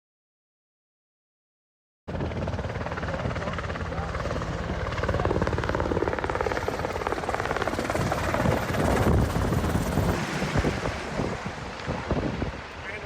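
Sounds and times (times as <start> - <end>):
helicopter rotor blades chopping: 2.1 - 13.0.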